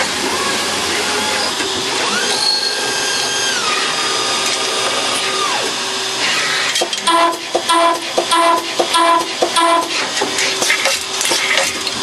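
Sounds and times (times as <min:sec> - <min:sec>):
spindle whine: 0:00.0 - 0:11.0
lathe cutting metal: 0:00.0 - 0:12.0.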